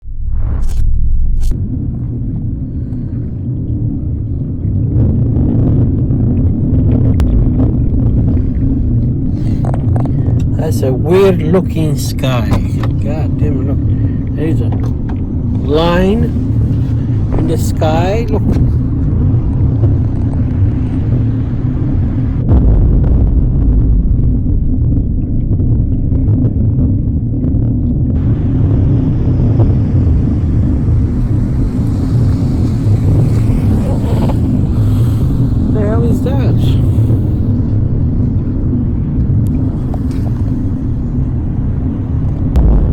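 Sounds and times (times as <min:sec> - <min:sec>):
low rumbling drone in sky: 0:00.0 - 0:42.9.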